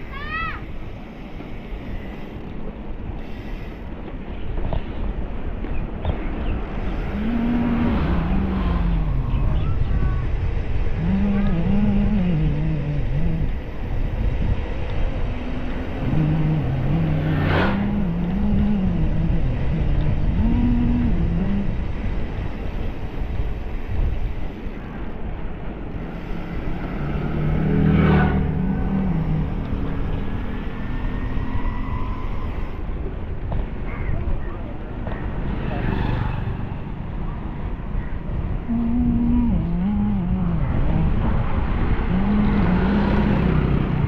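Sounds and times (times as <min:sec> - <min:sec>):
wind and road noise: 0:00.0 - 0:44.0
vehicle engine running: 0:06.8 - 0:44.0.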